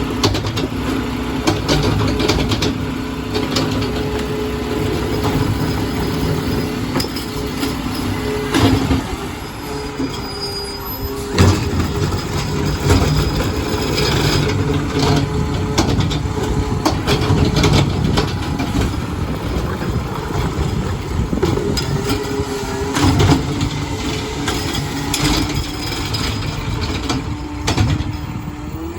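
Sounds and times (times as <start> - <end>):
garbage truck whining: 0.0 - 28.9
metallic clanks and squeals: 1.7 - 28.9.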